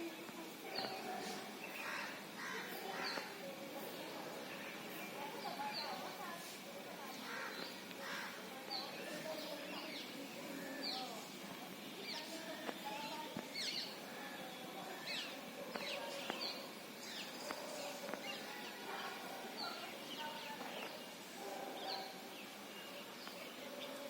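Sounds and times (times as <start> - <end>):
outdoor background noise: 0.0 - 24.0
small birds chirping: 0.0 - 24.0.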